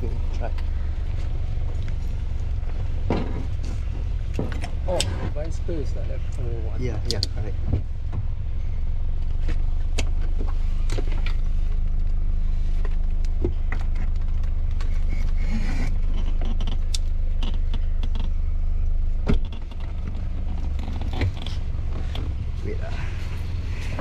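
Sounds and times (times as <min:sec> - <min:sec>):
car engine hum: 0:00.0 - 0:24.0.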